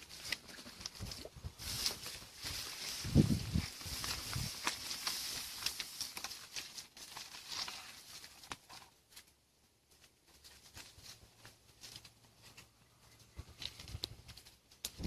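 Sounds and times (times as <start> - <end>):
footsteps through dry grass: 0.0 - 9.2, 9.9 - 14.6.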